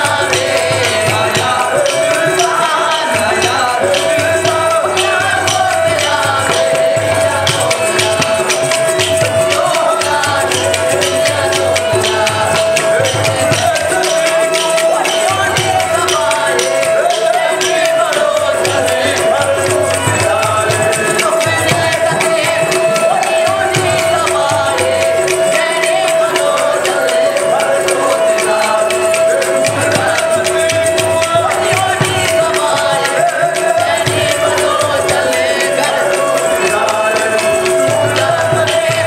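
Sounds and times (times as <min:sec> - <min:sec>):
group singing: 0:00.0 - 0:39.0
hand clappers and drum rhythm: 0:00.0 - 0:39.0
harmonium drone: 0:00.0 - 0:39.0.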